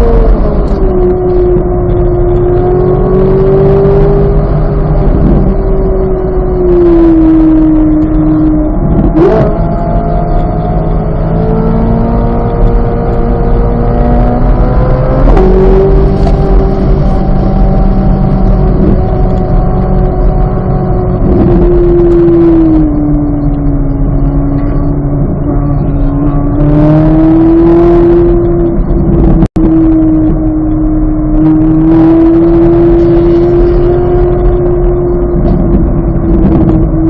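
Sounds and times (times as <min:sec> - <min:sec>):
car engine running hard: 0:00.0 - 0:37.0.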